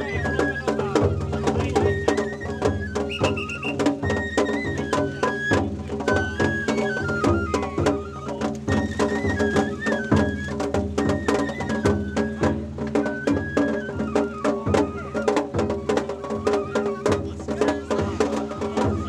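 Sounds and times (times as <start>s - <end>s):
bamboo flute melody: 0.0s - 19.0s
quick steady drum strikes: 0.0s - 19.0s.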